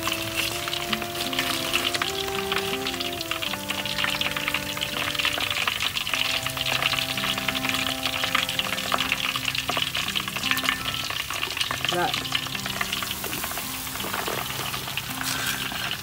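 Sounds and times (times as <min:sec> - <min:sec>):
background music of held notes: 0:00.0 - 0:16.0
hot oil crackling and sizzling: 0:00.0 - 0:16.0.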